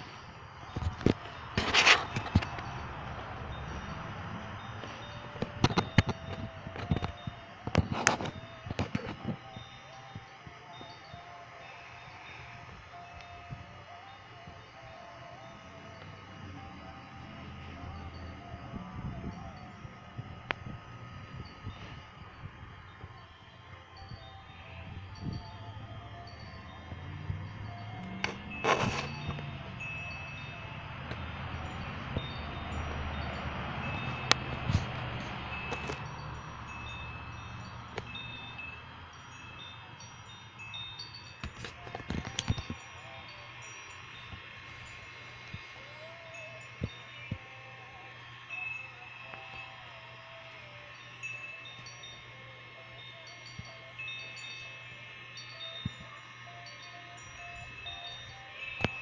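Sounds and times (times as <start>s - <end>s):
air pump humming: 0.0s - 59.0s
clear ringing tones: 0.0s - 59.0s.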